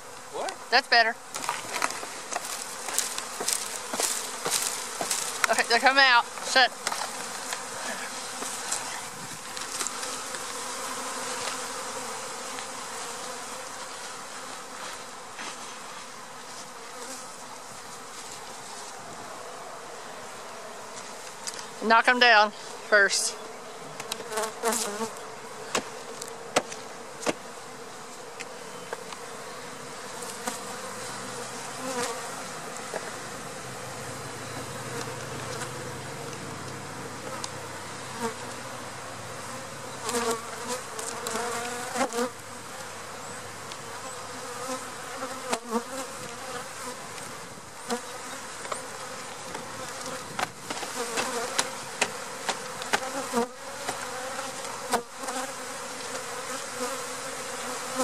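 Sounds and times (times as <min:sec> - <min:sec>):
bee swarm buzzing: 0:00.0 - 0:58.0.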